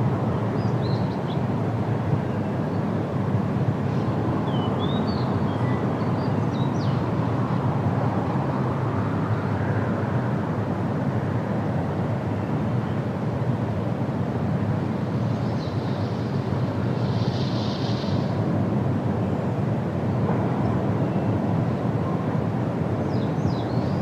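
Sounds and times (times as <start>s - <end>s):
low steady wind: 0.0s - 24.0s.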